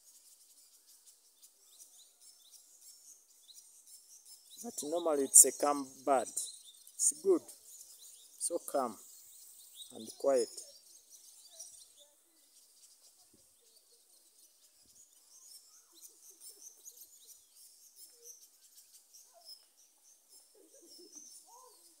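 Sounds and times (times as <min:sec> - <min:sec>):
faint small bird chirps: 0:00.0 - 0:22.0.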